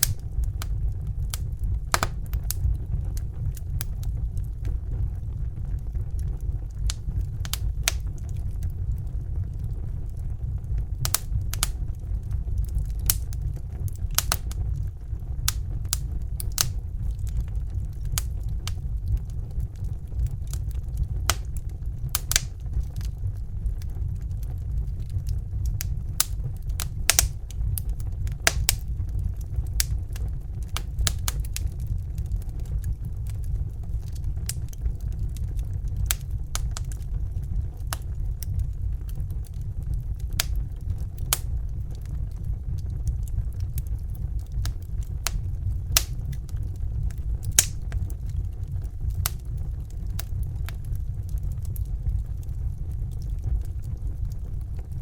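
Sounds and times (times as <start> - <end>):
fire crackling and popping: 0.0 - 55.0
low rumble: 0.0 - 55.0.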